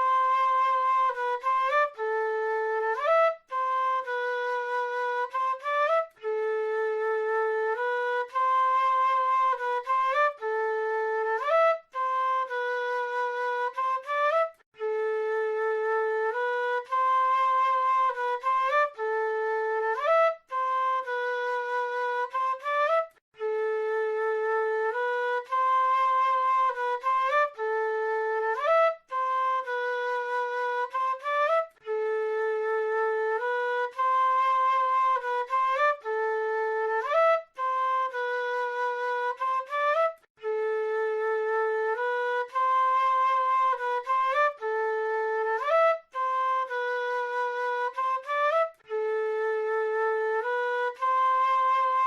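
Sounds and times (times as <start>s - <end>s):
flute melody: 0.0s - 52.0s.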